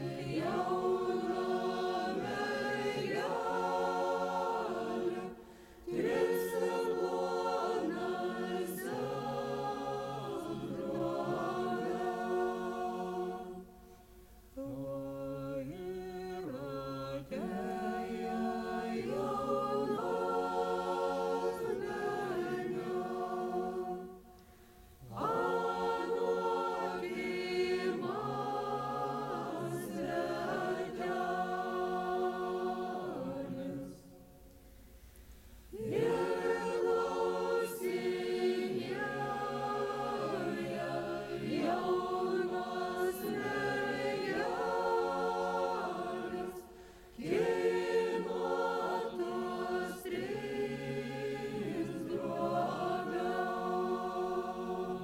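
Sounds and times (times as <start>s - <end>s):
choir singing unaccompanied: 0.0s - 34.5s, 35.7s - 55.0s.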